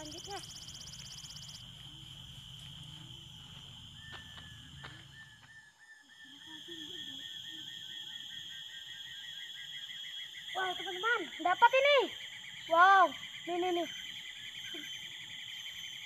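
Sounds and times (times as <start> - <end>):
insects droning high-pitched: 0.0 - 16.0.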